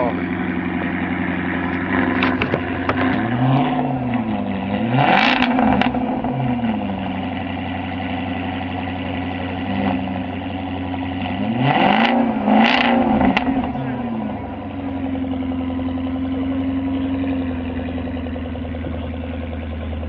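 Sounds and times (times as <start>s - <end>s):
car engine idling: 0.0s - 20.0s
car engine revving: 0.0s - 20.0s
exhaust crackles: 0.0s - 20.0s.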